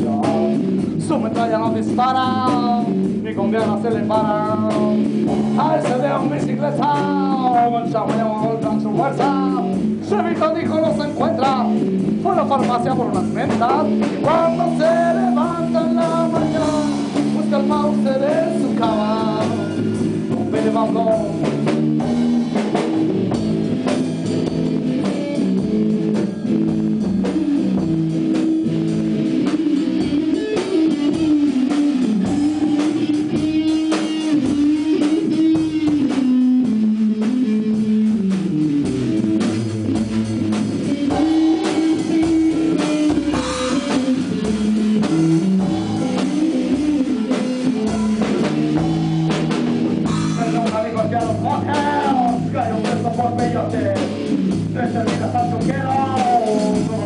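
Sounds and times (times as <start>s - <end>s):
bass guitar: 0.0s - 57.0s
drum kit: 0.0s - 57.0s
electric guitar lead bending: 0.0s - 57.0s.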